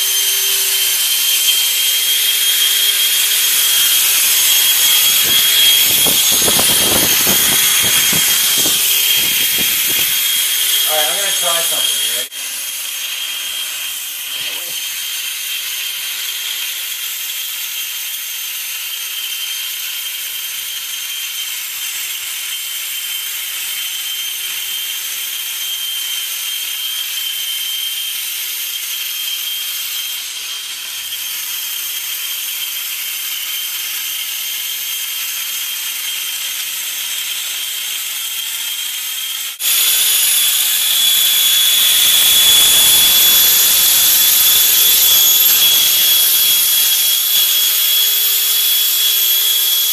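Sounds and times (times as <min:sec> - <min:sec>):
suction fan high-pitched whine: 0:00.0 - 0:49.9.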